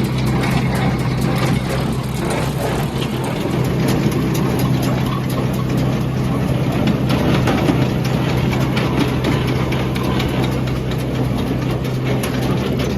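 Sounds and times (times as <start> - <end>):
machinery rattling: 0.0 - 12.9
tractor engine running: 0.0 - 12.9.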